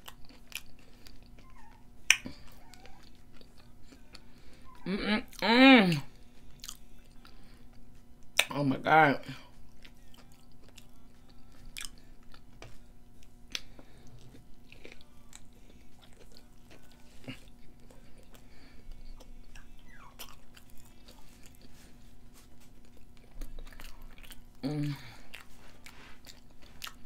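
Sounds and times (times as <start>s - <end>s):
chewing and biting fries: 0.0s - 8.5s, 9.6s - 27.0s
faint steady hum: 0.0s - 27.0s.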